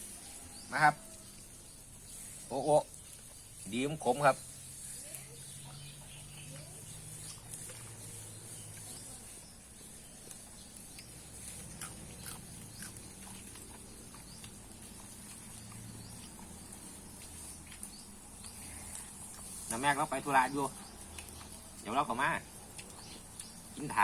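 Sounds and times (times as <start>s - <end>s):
faint chewing: 0.0s - 24.0s.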